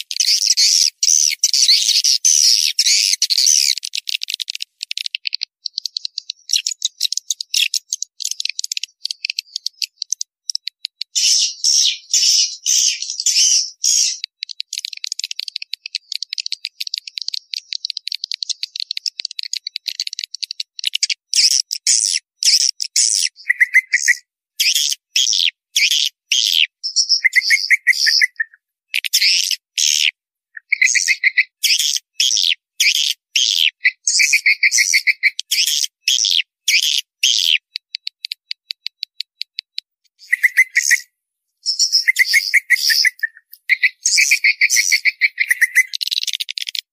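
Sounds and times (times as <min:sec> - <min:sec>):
swiftlets twittering and chirping: 0:00.0 - 0:46.9.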